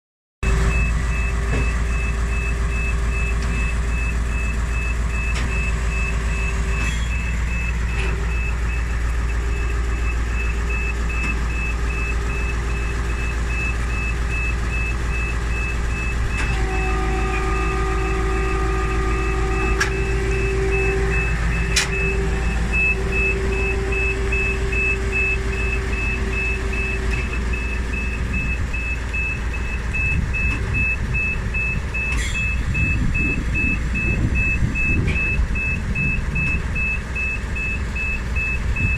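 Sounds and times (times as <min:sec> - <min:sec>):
diesel engine idling: 0:00.4 - 0:38.9
electronic warning beeps: 0:00.7 - 0:38.9.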